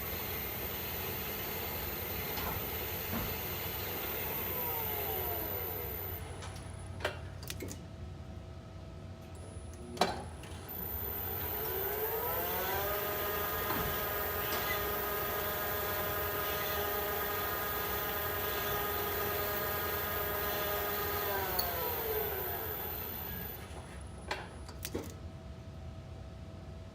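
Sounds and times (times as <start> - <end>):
elevator motor whine: 0.0 - 7.0, 9.5 - 24.8.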